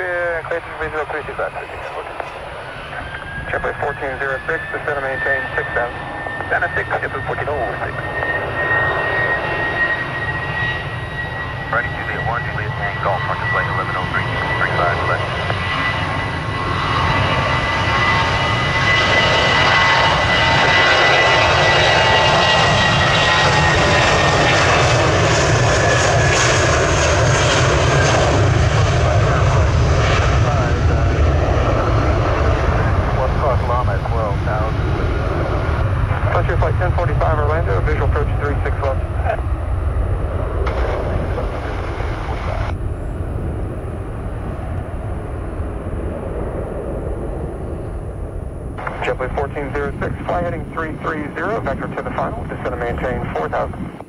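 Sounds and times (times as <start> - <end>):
jet engines roaring with whine: 0.0 - 54.0.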